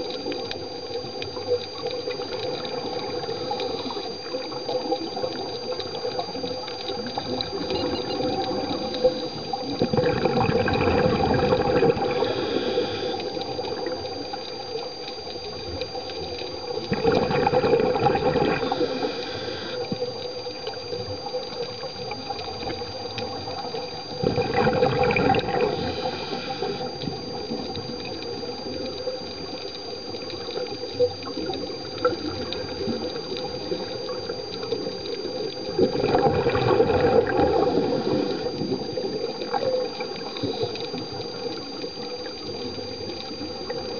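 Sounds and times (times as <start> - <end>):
exhaled air bubbling underwater: 0.0 - 43.9
faint steady whine: 0.0 - 43.9
steady underwater hiss: 0.0 - 43.9.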